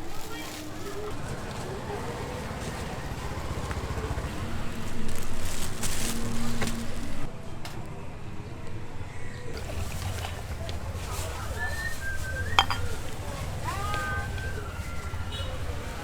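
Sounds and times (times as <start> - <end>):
faint voices: 0.0 - 7.3, 9.4 - 16.0
street traffic passing: 0.0 - 16.0
motorbike passing: 0.3 - 7.3, 9.6 - 16.0.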